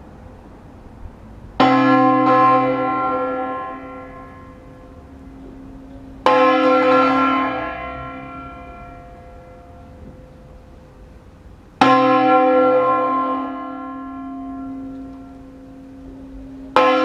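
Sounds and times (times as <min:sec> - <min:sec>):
large church bell tolling: 0:01.6 - 0:17.0.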